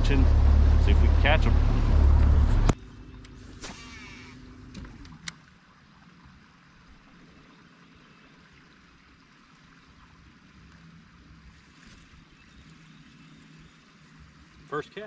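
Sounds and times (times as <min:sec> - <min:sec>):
low rumble with light hiss: 0:00.0 - 0:15.0.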